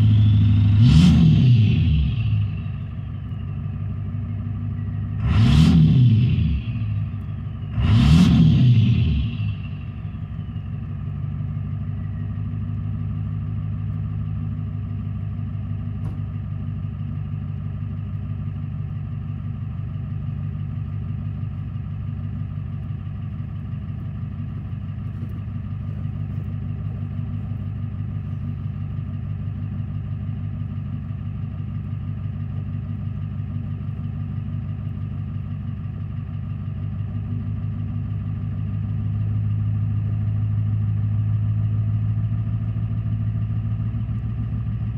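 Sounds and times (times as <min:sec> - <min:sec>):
diesel engine idling: 0:00.0 - 0:44.9
faint turbo whine: 0:00.0 - 0:44.9.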